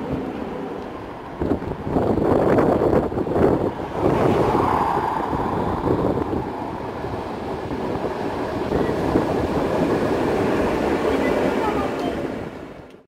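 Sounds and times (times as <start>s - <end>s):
electric tram passing: 0.0s - 13.0s
street noise: 0.0s - 13.0s
wind buffeting microphone: 0.0s - 13.0s.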